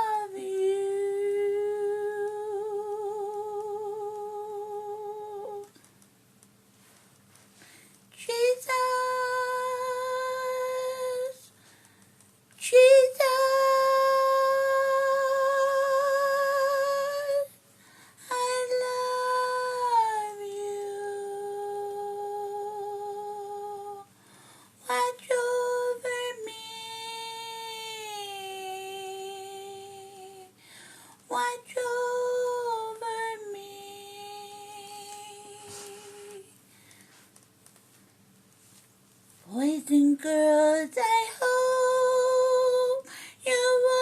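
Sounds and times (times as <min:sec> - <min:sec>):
woman singing in a high voice: 0:00.0 - 0:05.8, 0:08.2 - 0:11.5, 0:12.6 - 0:17.6, 0:18.2 - 0:24.1, 0:24.8 - 0:30.6, 0:31.3 - 0:36.6, 0:39.5 - 0:44.0.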